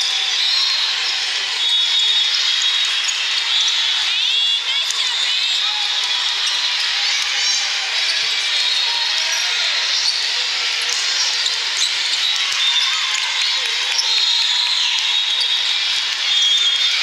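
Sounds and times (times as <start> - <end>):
overlapping voices and shouts: 0.0 - 17.0.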